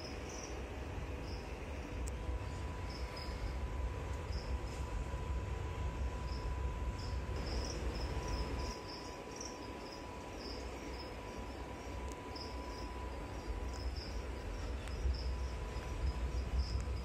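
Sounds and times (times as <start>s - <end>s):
insect chirping: 0.0s - 1.6s, 2.4s - 4.8s, 6.0s - 17.0s
faint high whine: 0.0s - 17.0s.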